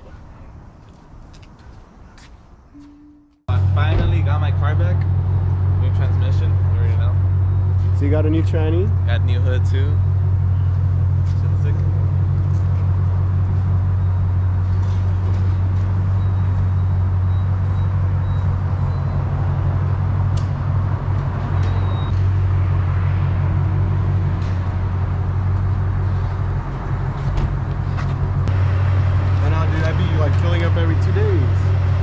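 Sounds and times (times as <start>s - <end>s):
car engine idling: 3.5s - 32.0s.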